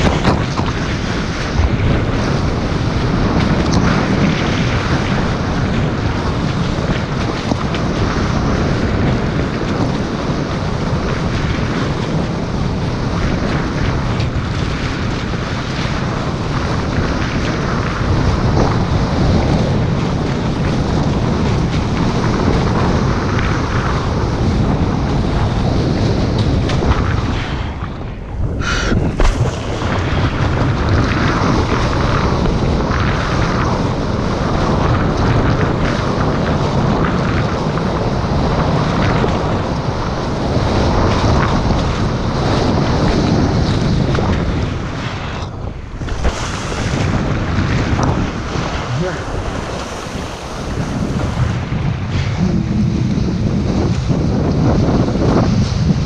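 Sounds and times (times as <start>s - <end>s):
rushing water and spray: 0.0s - 56.0s
wind buffeting microphone: 0.0s - 56.0s.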